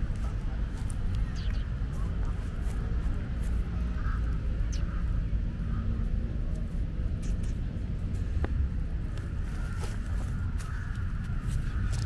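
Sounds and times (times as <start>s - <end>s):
faint distant sounds: 0.0s - 12.0s
low outdoor rumble: 0.0s - 12.0s.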